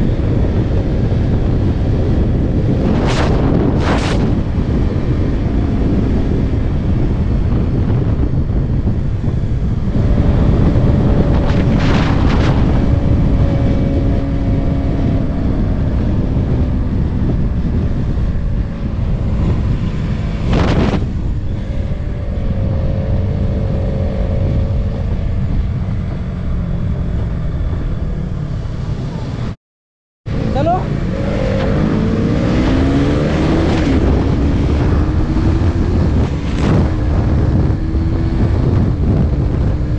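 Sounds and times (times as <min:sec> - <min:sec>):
motorcycle engine humming: 0:00.0 - 0:29.6, 0:30.3 - 0:39.9
wind rushing over microphone: 0:00.0 - 0:29.6, 0:30.3 - 0:39.9.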